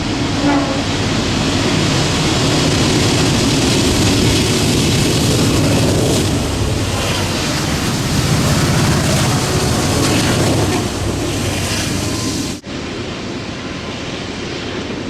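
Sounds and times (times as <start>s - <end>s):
train passing with rumble: 0.0s - 15.0s.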